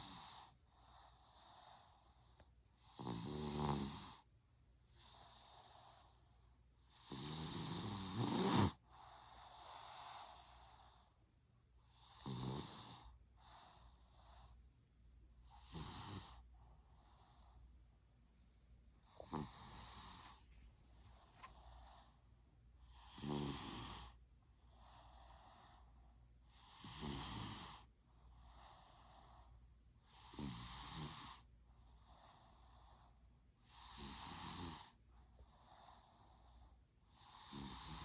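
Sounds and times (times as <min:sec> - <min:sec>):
child snoring: 0:00.0 - 0:04.3, 0:04.9 - 0:11.2, 0:11.9 - 0:14.6, 0:15.5 - 0:17.6, 0:19.0 - 0:20.5, 0:21.1 - 0:38.0
soft breaths: 0:00.0 - 0:38.0.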